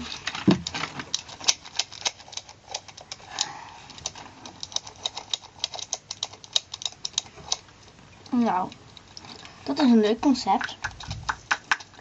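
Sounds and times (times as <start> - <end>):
plastic toy clicking: 0.2 - 9.4, 10.5 - 12.0.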